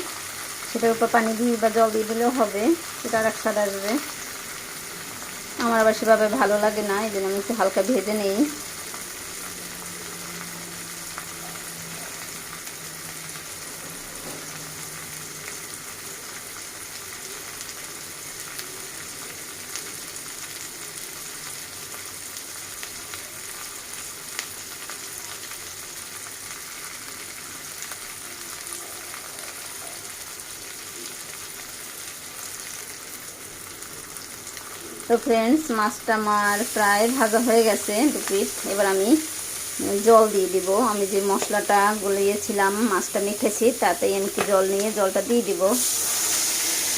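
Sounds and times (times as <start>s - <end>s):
fish sizzling in hot oil: 0.0s - 46.9s.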